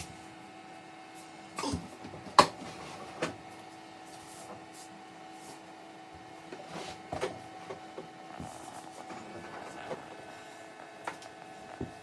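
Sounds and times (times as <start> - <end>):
faint steady hum: 0.0 - 12.0
scraping and shuffling: 1.8 - 12.0.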